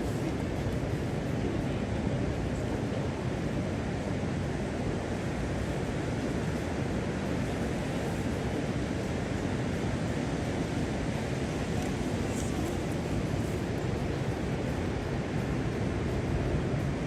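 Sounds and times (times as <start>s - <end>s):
ocean surf on beach: 0.0s - 17.0s.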